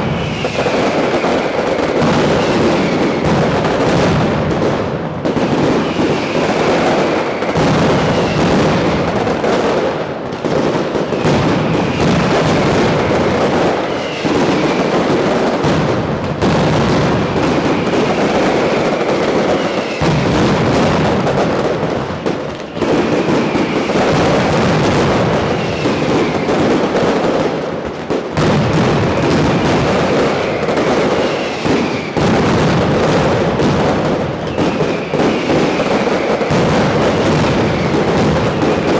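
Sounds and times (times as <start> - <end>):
firecrackers banging: 0.0 - 38.9.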